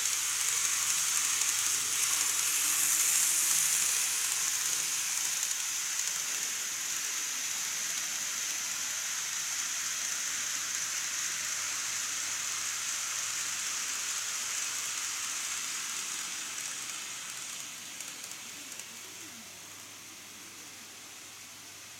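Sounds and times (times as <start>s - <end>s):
model train rolling on track: 0.0s - 21.9s.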